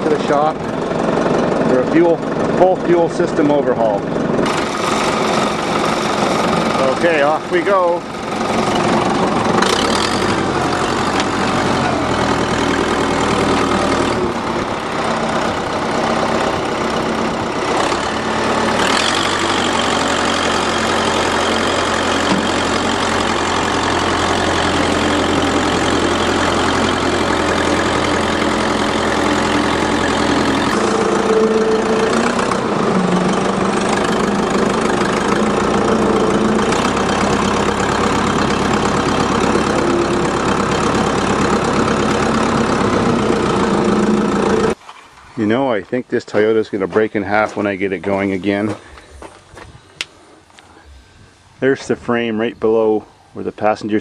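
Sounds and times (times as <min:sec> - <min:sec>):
loader engine running: 0:00.0 - 0:53.7.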